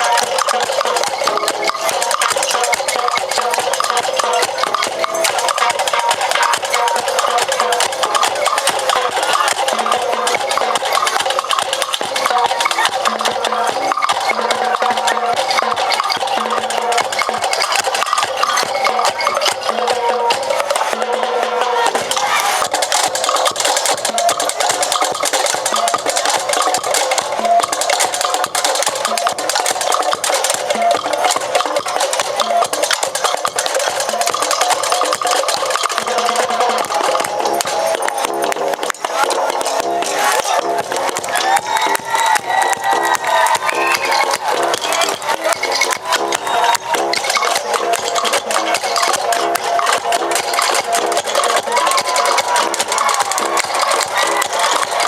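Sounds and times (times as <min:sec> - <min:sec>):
fast dense drumming: 0:00.0 - 0:55.0
music with busy percussion: 0:00.0 - 0:55.0.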